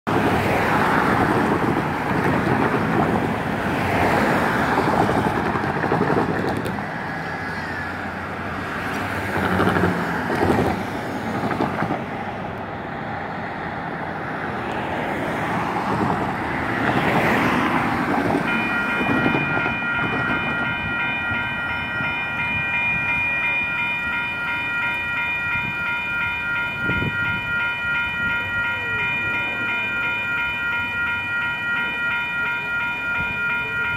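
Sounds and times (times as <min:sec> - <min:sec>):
railroad crossing bells ringing: 0:00.1 - 0:10.5, 0:14.1 - 0:33.9
traffic and rail noise: 0:00.1 - 0:33.9.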